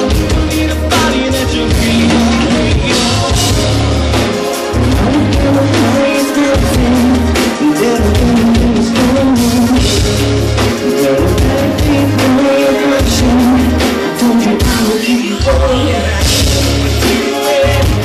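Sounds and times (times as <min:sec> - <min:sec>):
drum kit beats: 0:00.0 - 0:18.0
person singing lead vocal: 0:00.0 - 0:18.0.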